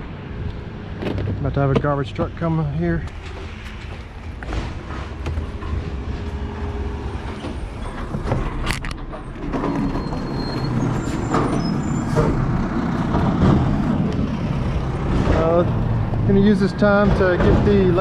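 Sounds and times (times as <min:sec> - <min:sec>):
garbage truck diesel engine: 0:00.0 - 0:18.0.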